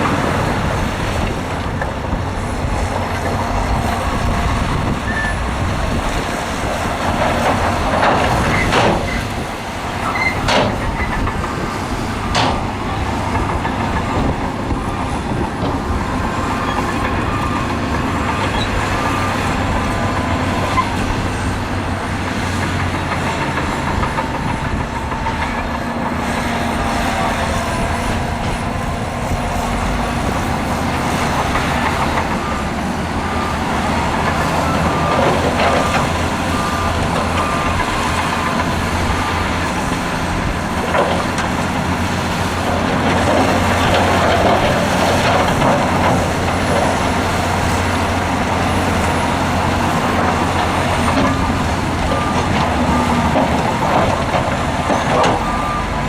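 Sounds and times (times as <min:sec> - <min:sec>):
diesel engines running: 0:00.0 - 0:56.0
reversing alarm beeping: 0:00.0 - 0:56.0.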